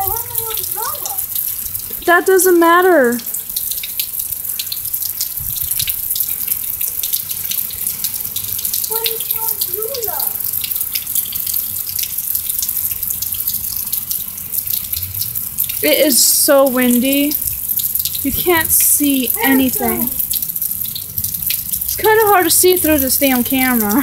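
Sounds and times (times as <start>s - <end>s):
heavy rain pouring: 0.0s - 24.0s
sharp raindrop hits: 0.0s - 24.0s.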